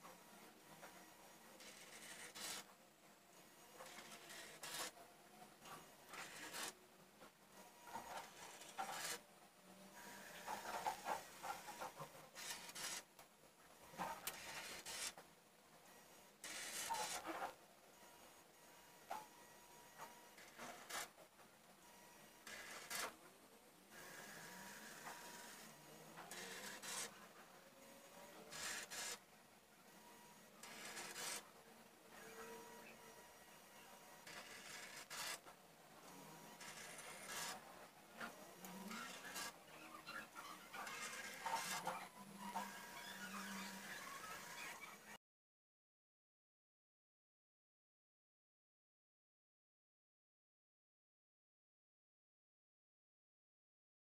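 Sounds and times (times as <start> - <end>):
faint motor whirring: 0.0 - 45.2.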